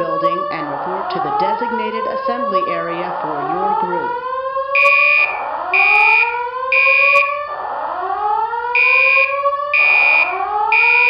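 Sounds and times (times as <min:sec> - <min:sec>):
rising whoop alarm tone: 0:00.0 - 0:11.0.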